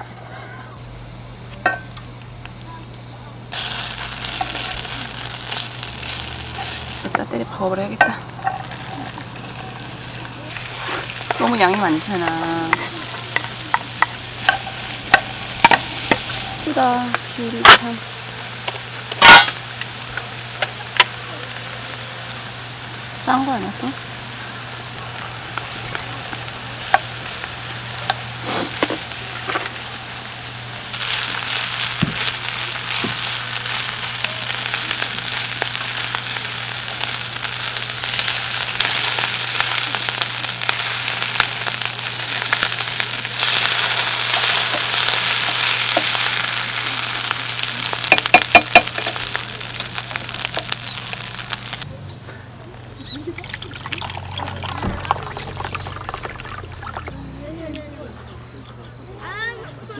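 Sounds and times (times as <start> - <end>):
food sizzling in a hot pan: 1.7 - 51.9, 53.4 - 57.4.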